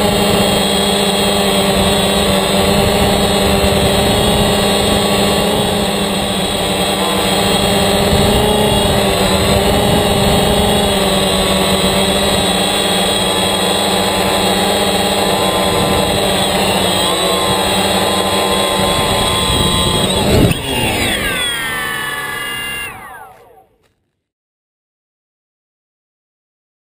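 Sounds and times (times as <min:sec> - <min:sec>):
drone motors whining: 0:00.0 - 0:24.2.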